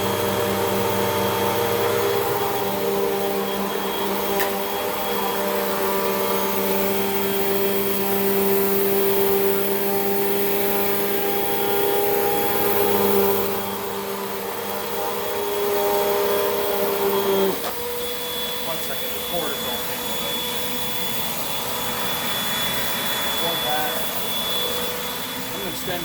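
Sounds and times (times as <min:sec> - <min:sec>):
vacuum cleaner running on carpet: 0:00.0 - 0:26.0.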